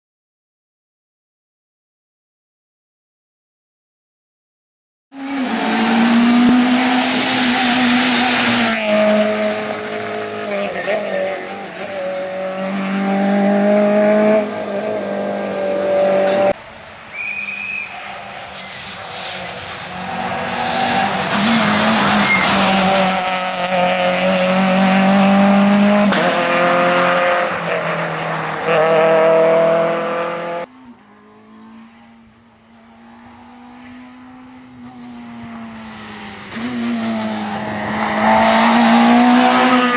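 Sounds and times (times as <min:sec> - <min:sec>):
rally car engine revving: 0:05.2 - 0:16.6, 0:18.0 - 0:39.9.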